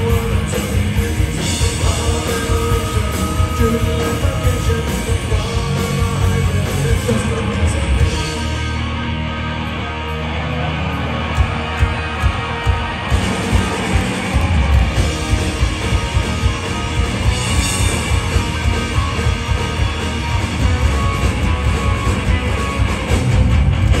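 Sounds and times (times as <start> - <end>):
punk rock band playing live: 0.0 - 24.0.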